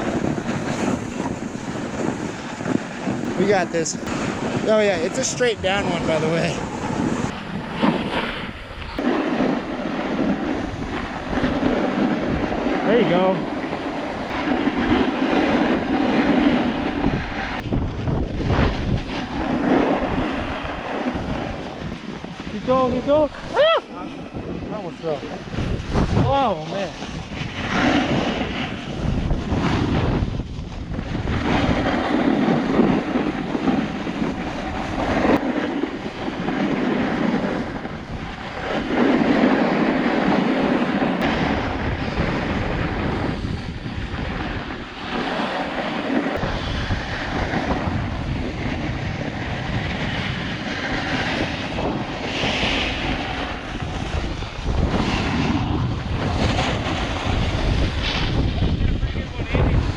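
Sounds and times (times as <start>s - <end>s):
snowboard scraping over snow: 0.0s - 59.9s
wind on microphone: 0.0s - 59.9s.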